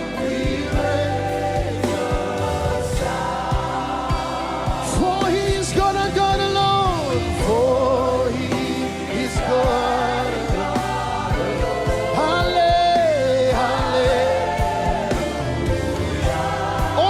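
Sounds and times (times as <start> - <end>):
congregation singing: 0.0 - 17.0
keyboard and band accompaniment: 0.0 - 17.0.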